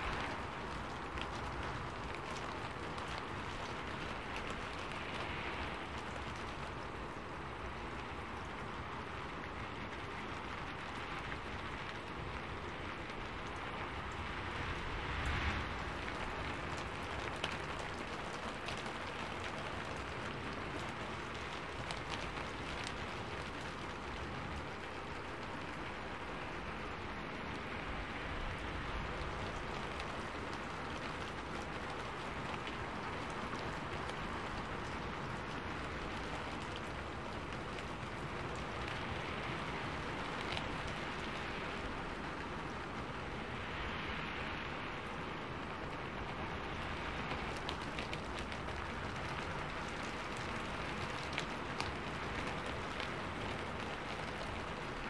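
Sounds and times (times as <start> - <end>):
rain falling steadily: 0.0 - 55.0
sharp raindrop hits: 0.0 - 55.0.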